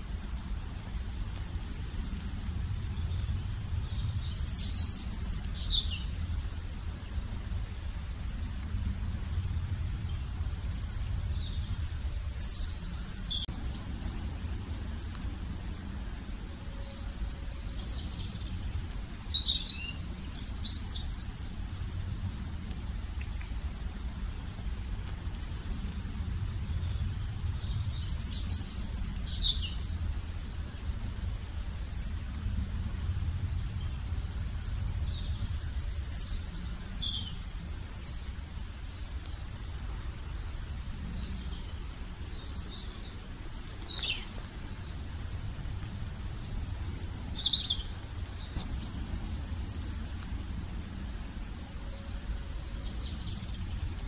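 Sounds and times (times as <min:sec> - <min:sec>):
low background rumble: 0:00.0 - 0:54.0
songbirds chirping: 0:00.0 - 0:54.0.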